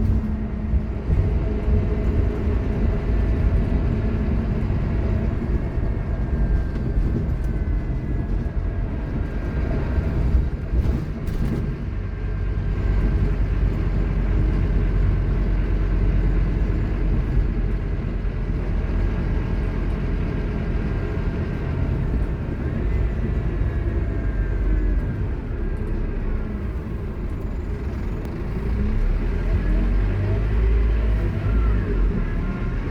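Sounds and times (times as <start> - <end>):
diesel bus engine rumble: 0.0 - 32.9.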